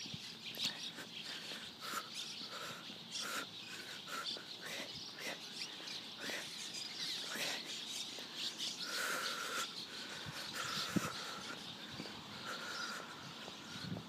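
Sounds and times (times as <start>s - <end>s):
flock of sparrows chirping: 0.0s - 14.0s.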